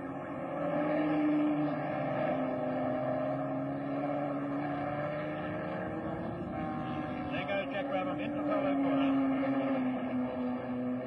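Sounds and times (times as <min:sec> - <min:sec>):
racing car engine at high revs: 0:00.0 - 0:11.0.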